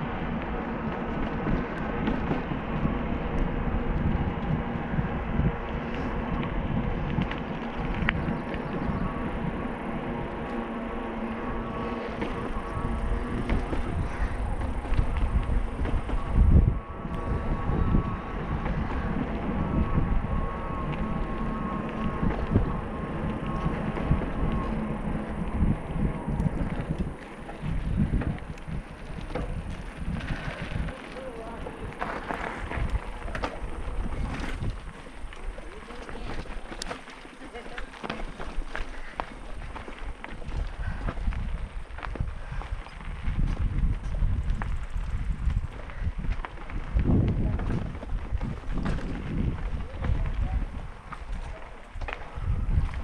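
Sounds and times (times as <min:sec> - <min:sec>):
bicycle rumble: 0:00.0 - 0:53.0
bike rushing noise: 0:00.0 - 0:53.0
faint whine: 0:00.0 - 0:53.0
wind buffeting microphone: 0:00.0 - 0:53.0.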